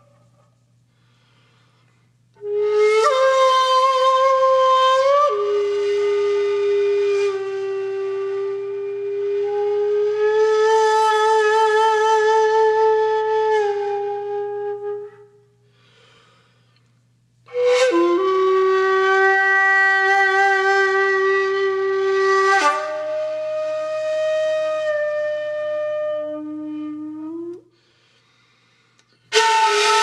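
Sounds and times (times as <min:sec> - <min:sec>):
solo flute long notes: 0:02.3 - 0:16.0, 0:17.5 - 0:27.9, 0:29.3 - 0:30.0.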